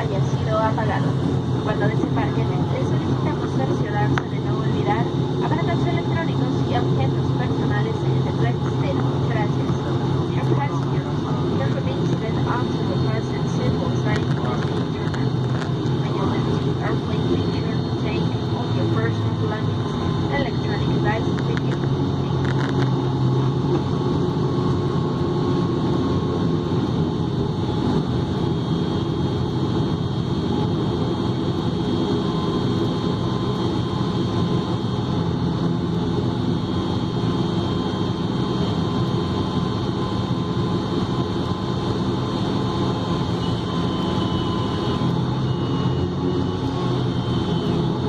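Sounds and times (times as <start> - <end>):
engine rumble in cabin: 0.0 - 48.0
high whine: 0.0 - 48.0.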